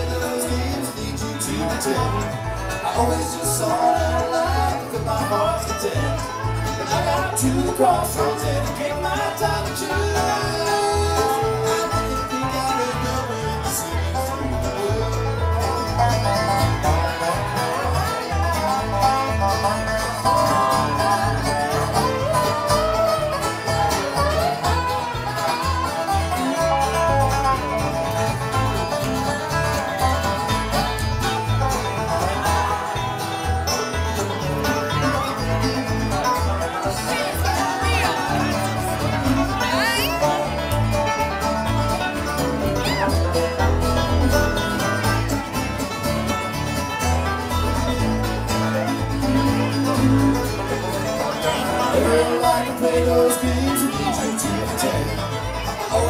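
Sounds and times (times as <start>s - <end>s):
acoustic guitar: 0.0s - 56.0s
banjo: 0.0s - 56.0s
upright bass: 0.0s - 56.0s.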